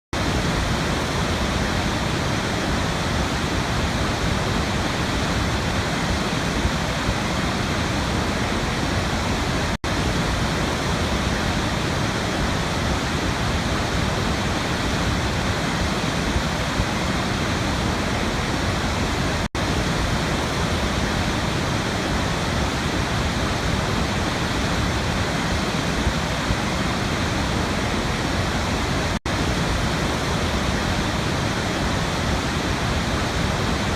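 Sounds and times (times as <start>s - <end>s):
waterfall roar: 0.2s - 33.9s.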